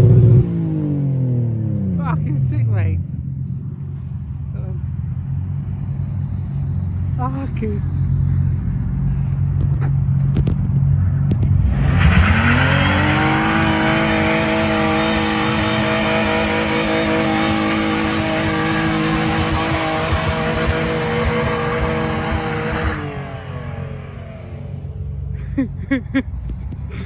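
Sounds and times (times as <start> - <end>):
car engine revving: 0.0 - 25.3.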